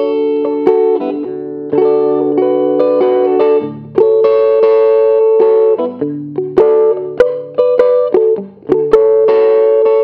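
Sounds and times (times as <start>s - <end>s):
clean electric guitar notes: 0.0s - 10.0s.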